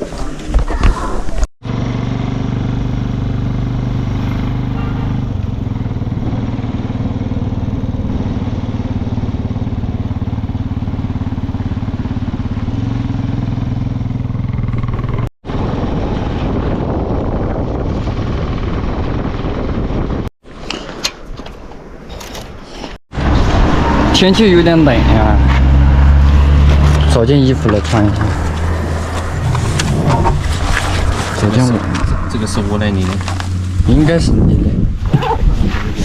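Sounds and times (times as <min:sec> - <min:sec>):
motorcycle engine running: 0:01.6 - 0:20.3, 0:23.2 - 0:36.0.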